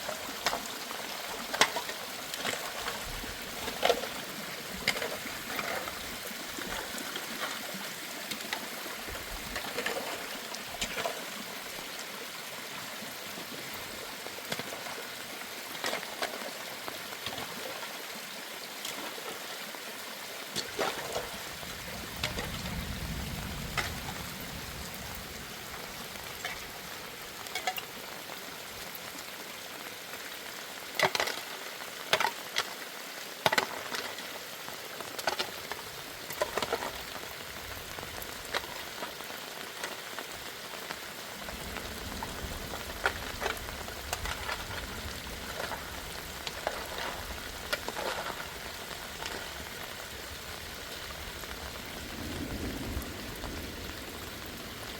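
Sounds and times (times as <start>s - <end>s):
water running and trickling: 0.0s - 54.9s.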